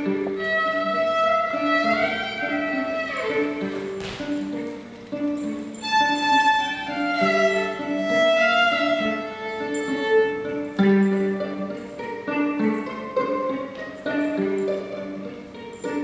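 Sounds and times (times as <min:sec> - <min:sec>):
violin playing slow melody: 0:00.0 - 0:16.0.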